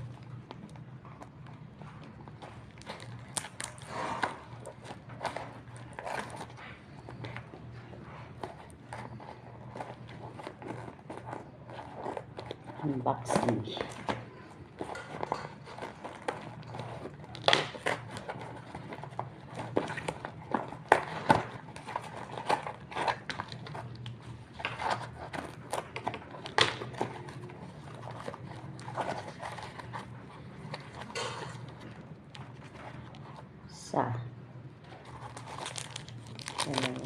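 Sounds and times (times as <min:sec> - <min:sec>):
plastic packaging crinkling: 0:00.0 - 0:33.7, 0:34.7 - 0:37.0.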